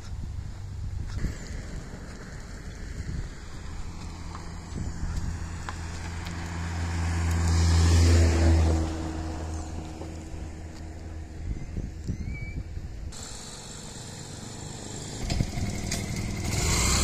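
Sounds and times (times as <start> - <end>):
vehicle passing by: 1.2 - 11.6, 13.2 - 17.0.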